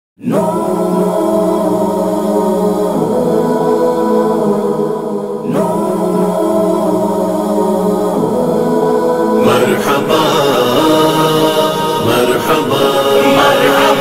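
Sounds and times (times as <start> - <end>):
chorus of voices humming chords: 0.2 - 14.0.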